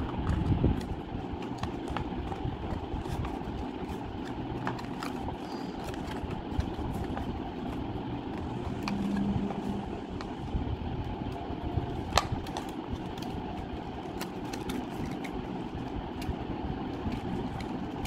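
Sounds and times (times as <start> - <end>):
paper being handled and creased: 0.0 - 10.4, 11.9 - 18.0
low background rumble: 0.0 - 18.0.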